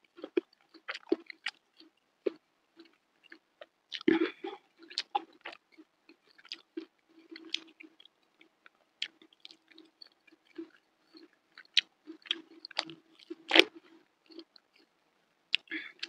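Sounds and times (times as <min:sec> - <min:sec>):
person chewing food: 0:00.0 - 0:14.9, 0:15.5 - 0:16.0.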